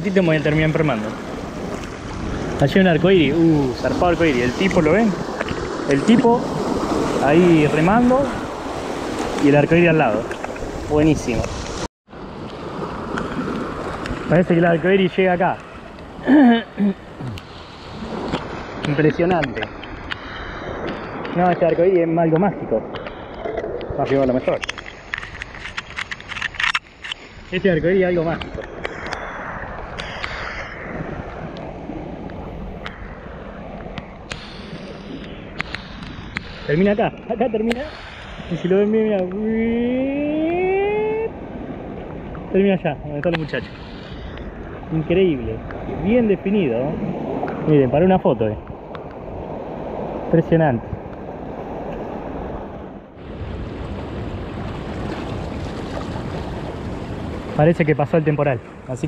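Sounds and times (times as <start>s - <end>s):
surf washing against rocks: 0.0s - 59.0s
wind buffeting microphone: 0.0s - 59.0s.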